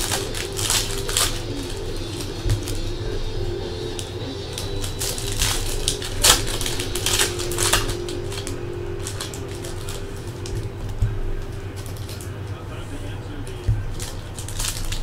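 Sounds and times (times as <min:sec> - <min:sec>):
trading cards clicking and snapping: 0:00.0 - 0:12.6, 0:13.3 - 0:15.0.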